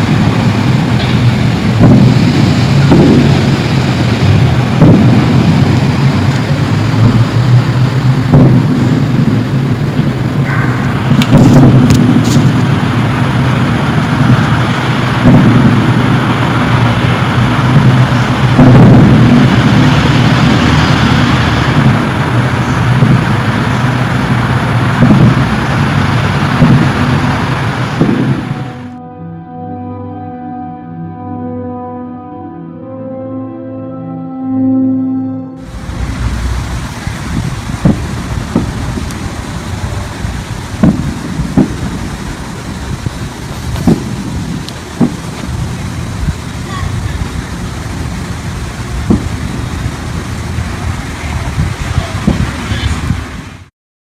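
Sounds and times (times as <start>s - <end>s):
low rumbling drone: 0.0s - 53.7s.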